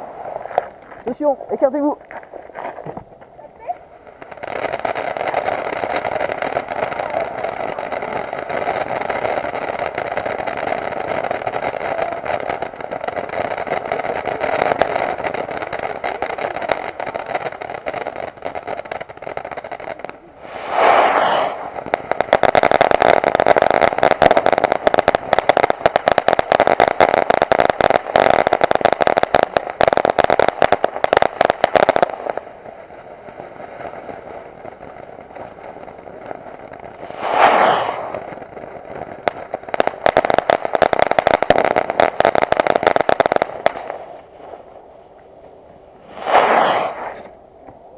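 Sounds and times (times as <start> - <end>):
firework fountain hissing and crackling: 0.0 - 47.9.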